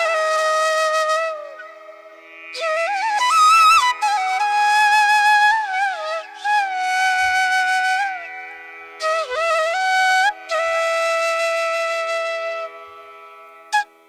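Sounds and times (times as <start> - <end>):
bamboo flute playing: 0.0 - 14.0.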